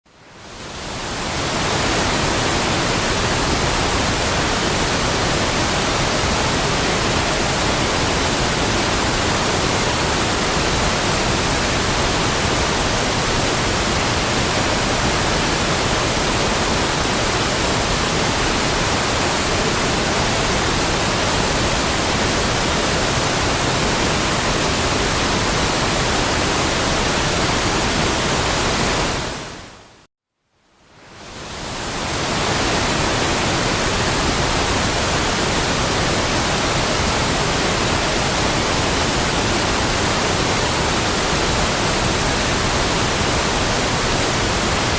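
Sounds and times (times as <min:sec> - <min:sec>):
waterfall rushing: 0:00.3 - 0:29.8, 0:31.2 - 0:44.9.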